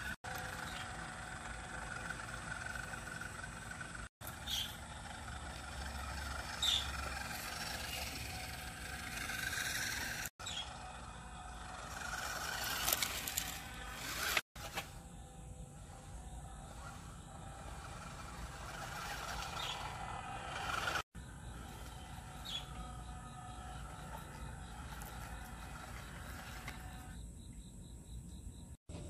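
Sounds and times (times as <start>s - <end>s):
small electric motor whirring: 0.0s - 27.2s.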